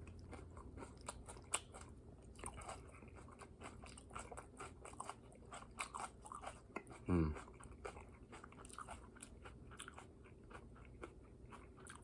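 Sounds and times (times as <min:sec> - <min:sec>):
wet chewing of noodles: 0:00.0 - 0:12.0.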